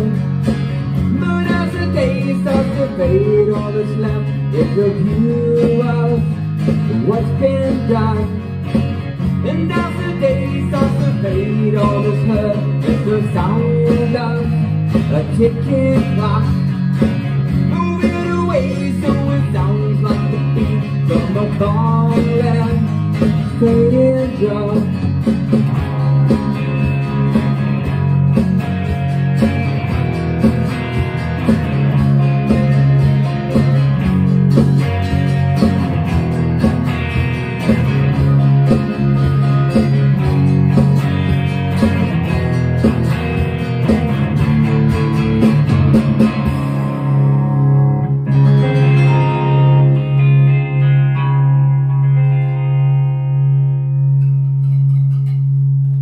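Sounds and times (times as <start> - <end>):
electric and acoustic guitars: 0.0 - 56.0.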